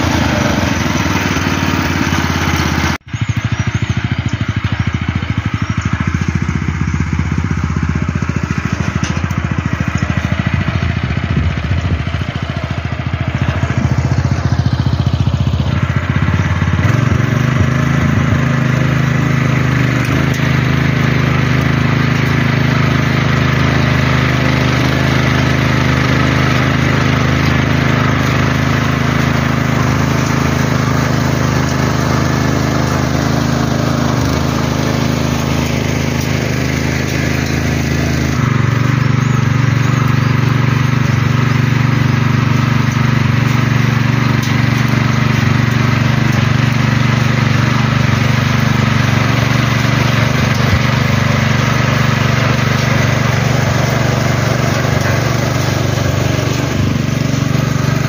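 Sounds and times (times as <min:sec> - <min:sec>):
tiller engine running: 0:00.0 - 0:58.0
tines churning through dry soil: 0:00.0 - 0:58.0.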